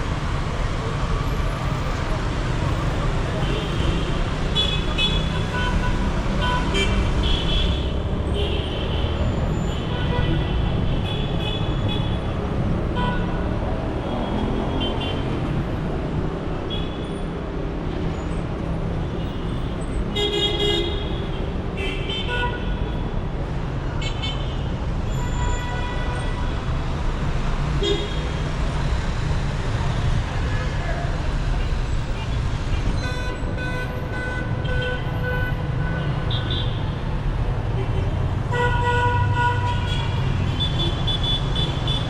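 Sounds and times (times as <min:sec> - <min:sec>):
traffic engines rumbling: 0:00.0 - 0:42.0.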